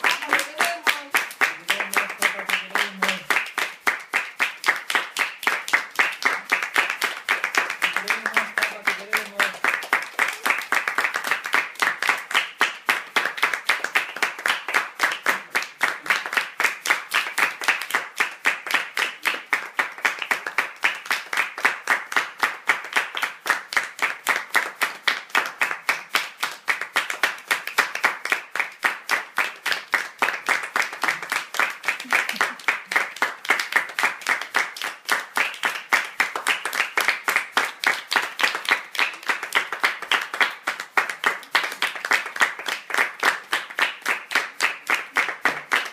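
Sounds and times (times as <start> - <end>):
people applauding: 0.0 - 45.9.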